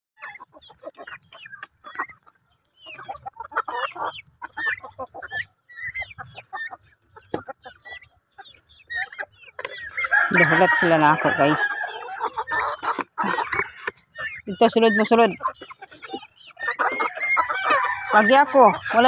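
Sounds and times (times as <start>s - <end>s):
chickens clucking: 0.2s - 19.0s.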